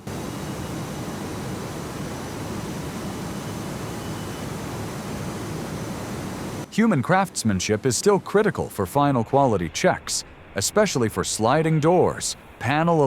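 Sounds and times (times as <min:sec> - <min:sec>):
faint high whines: 0:00.0 - 0:13.0
machinery hiss and hum: 0:00.0 - 0:13.0.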